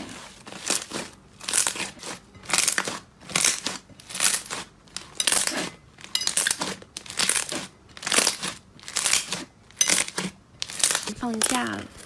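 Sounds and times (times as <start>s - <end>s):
slime squishing by hand: 0.0s - 12.0s.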